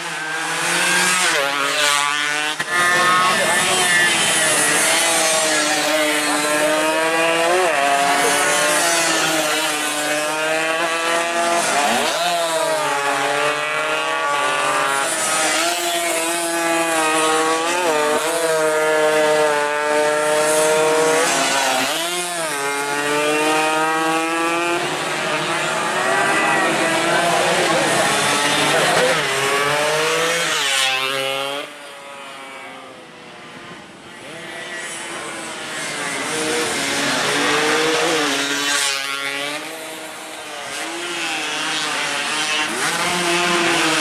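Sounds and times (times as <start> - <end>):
racing motorcycles revving: 0.0 - 44.0.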